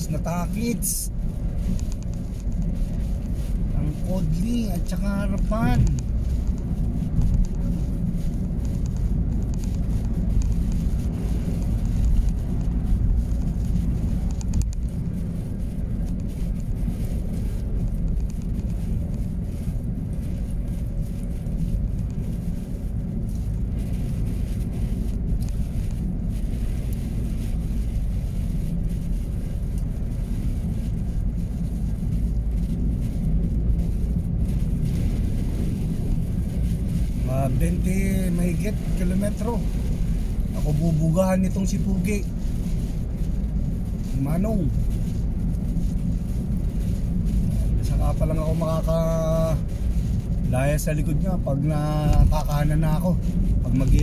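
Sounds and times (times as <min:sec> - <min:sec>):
road noise: 0:00.0 - 0:54.0
truck engine rumble: 0:00.0 - 0:54.0.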